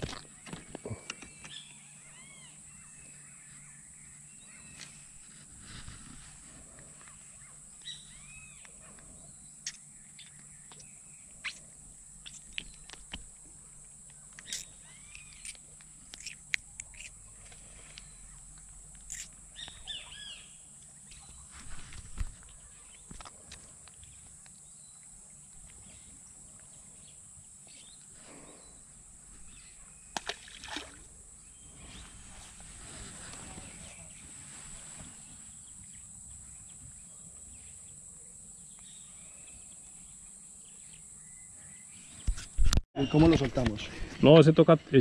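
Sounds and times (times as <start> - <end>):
birds chirping: 0.0 - 5.3, 6.6 - 45.0
steady high-pitched hiss: 0.0 - 30.2, 30.8 - 45.0.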